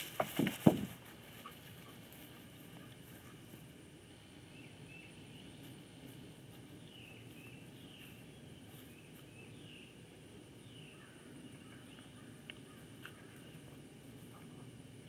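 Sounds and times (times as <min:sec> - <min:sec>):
low hiss: 0:00.0 - 0:15.0.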